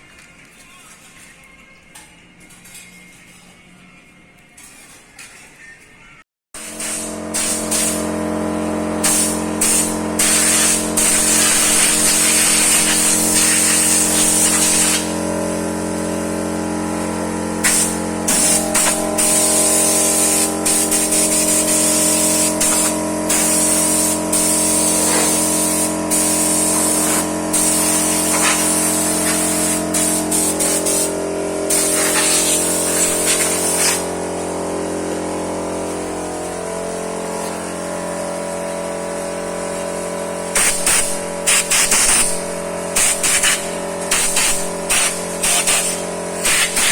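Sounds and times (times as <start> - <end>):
vacuum pump motor hum: 6.6 - 46.9.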